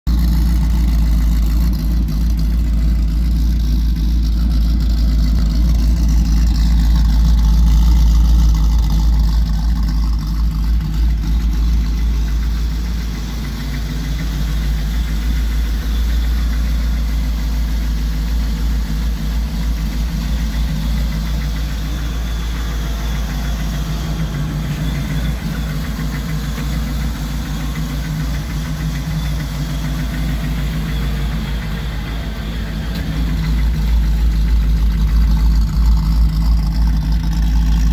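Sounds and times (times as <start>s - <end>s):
engine idling with deep rumble: 0.0s - 37.9s.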